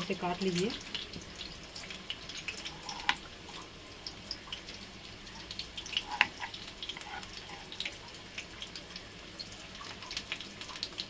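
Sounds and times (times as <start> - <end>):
hot oil crackling and popping: 0.0 - 11.0.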